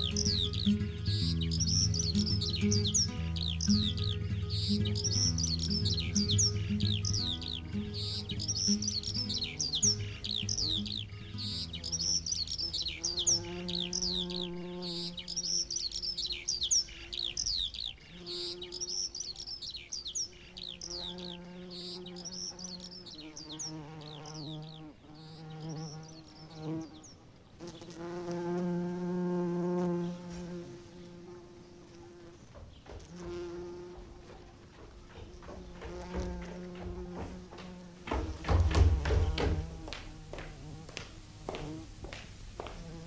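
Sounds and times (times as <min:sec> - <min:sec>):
birds chirping: 0:00.0 - 0:43.0
insect buzzing: 0:00.0 - 0:43.0.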